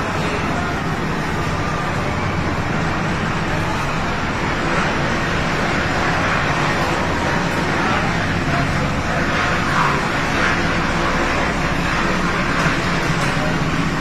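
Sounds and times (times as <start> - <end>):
helicopter hovering: 0.0 - 14.0.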